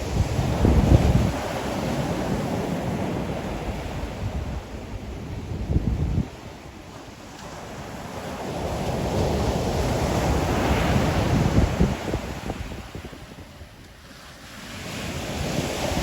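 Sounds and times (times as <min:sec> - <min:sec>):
ocean waves breaking: 0:00.0 - 0:16.0
wind rumble on microphone: 0:00.0 - 0:16.0.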